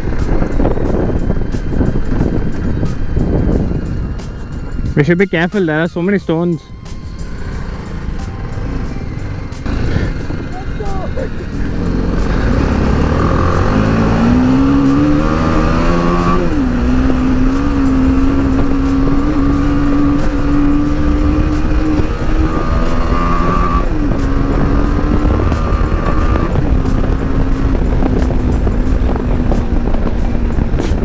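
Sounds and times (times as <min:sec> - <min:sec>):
motorcycle engine revving: 0:00.0 - 0:05.0, 0:07.1 - 0:31.0
wind on microphone: 0:00.0 - 0:05.0, 0:08.8 - 0:31.0.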